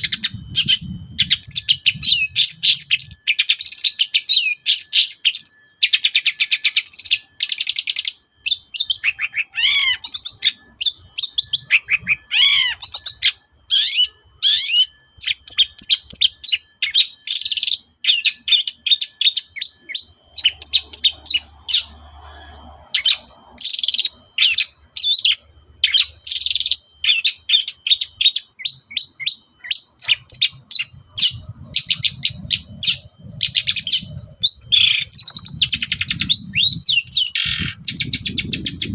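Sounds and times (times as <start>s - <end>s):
bird singing chirps and whistles: 0.0s - 38.9s.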